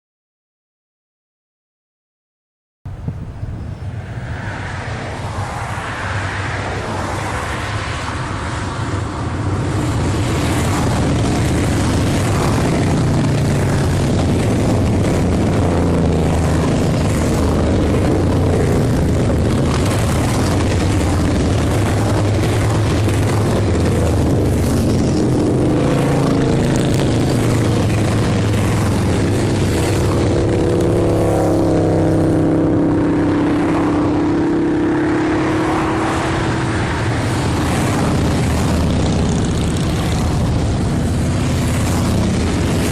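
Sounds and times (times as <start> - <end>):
motorcycle engines revving: 3.0 - 42.9.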